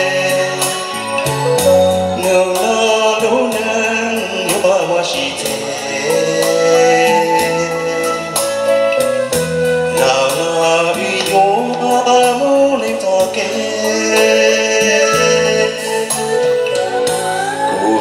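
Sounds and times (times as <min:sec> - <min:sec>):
backing music with bass and drums: 0:00.0 - 0:18.0
man singing into microphone: 0:00.0 - 0:18.0.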